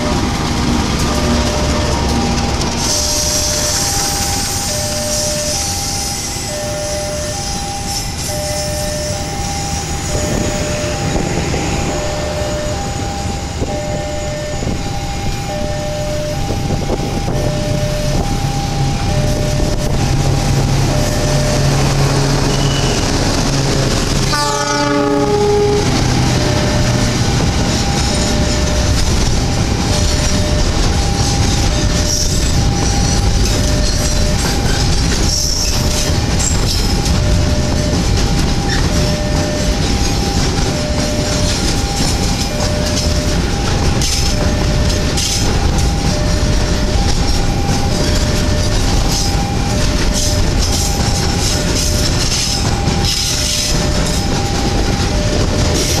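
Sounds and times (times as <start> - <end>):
trains rumbling past: 0.0 - 56.0.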